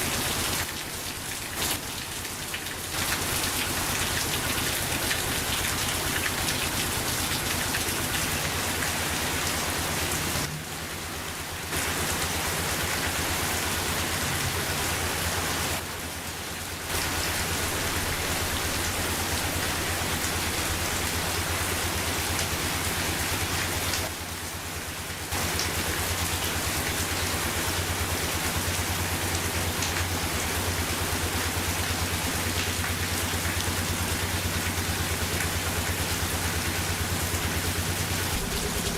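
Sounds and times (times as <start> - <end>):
rain hissing: 0.0 - 38.9.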